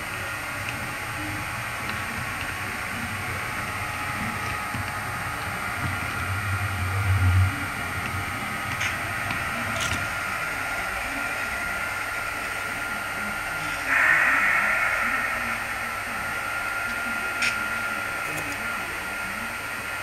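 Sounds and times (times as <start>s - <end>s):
model locomotives humming: 0.0s - 20.0s
deeper hum: 0.1s - 12.8s, 13.6s - 19.7s.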